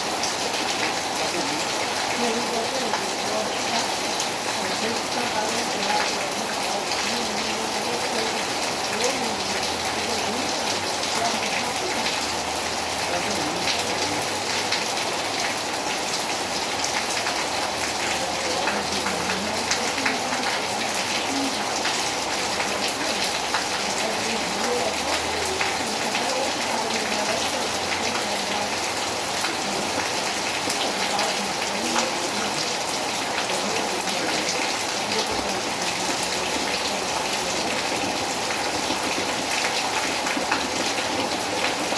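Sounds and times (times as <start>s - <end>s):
raindrops pattering on surfaces: 0.0s - 41.9s
steady rain falling: 0.0s - 41.9s.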